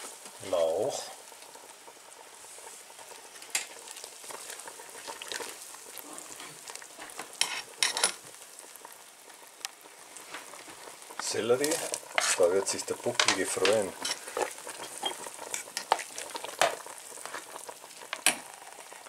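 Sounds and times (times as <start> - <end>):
broth simmering and bubbling: 0.0 - 19.0.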